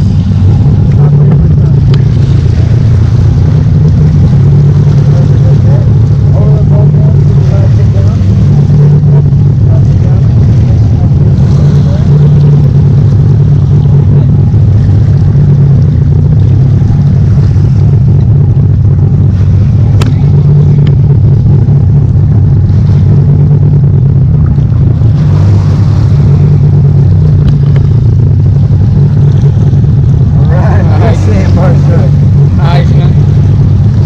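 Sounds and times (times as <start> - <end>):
boat engine rumbling: 0.0 - 34.0.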